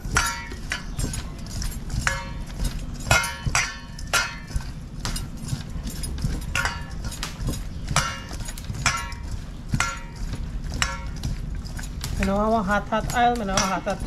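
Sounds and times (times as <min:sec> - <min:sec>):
metal bowl knocking and ringing: 0:00.0 - 0:11.4.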